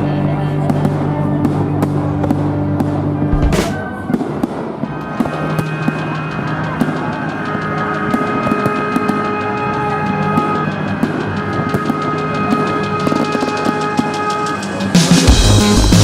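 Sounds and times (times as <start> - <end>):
fireworks bursting and crackling: 0.6 - 15.3
loud music: 2.0 - 16.0.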